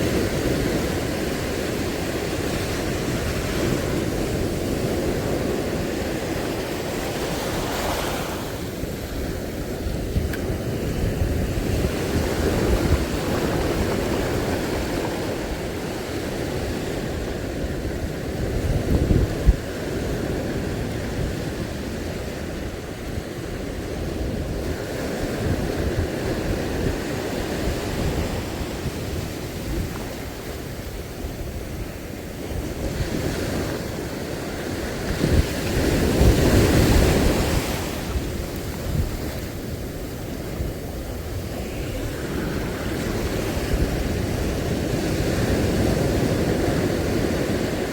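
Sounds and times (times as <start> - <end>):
sea surf washing: 0.0 - 47.9
wind buffeting microphone: 0.0 - 47.9.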